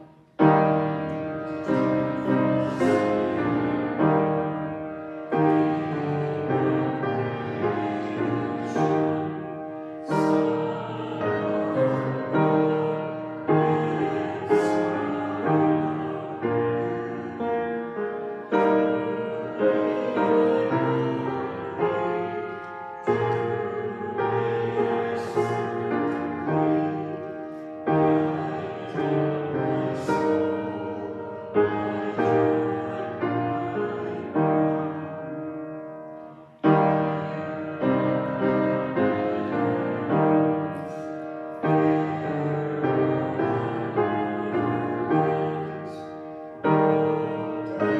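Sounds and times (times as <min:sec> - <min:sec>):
piano playing slow chords: 0:00.0 - 0:47.9.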